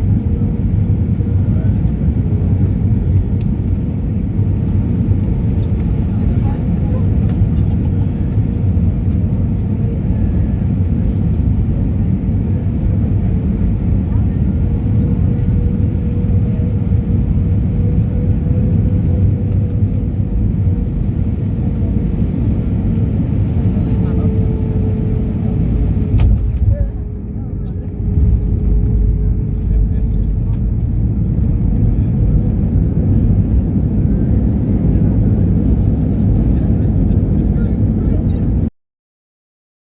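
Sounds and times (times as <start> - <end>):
jet engines rumbling: 0.0 - 38.7.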